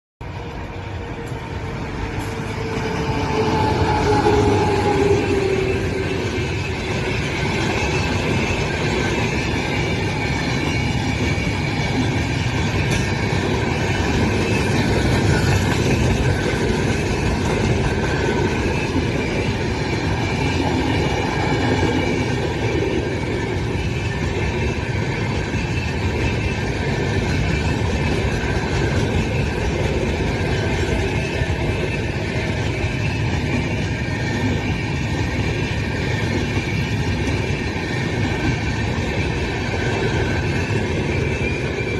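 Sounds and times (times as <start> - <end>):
train wheels rumbling on rails: 0.2 - 41.9.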